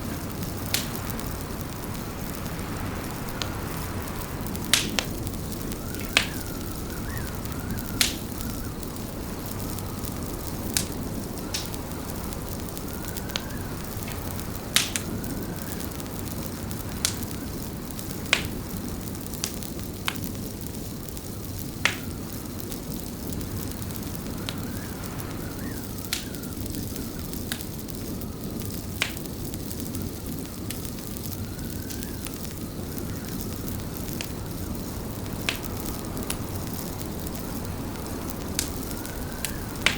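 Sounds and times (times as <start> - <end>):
wind whistle: 0.0 - 17.7, 23.2 - 29.0, 29.9 - 39.9
wood fire crackling: 0.0 - 39.9.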